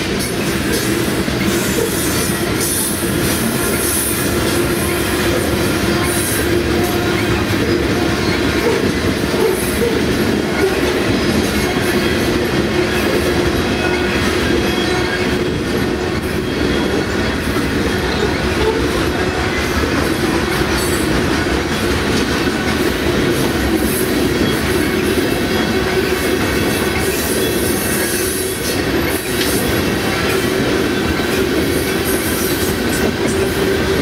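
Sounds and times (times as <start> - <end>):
train cars rumbling on rails: 0.0 - 34.0.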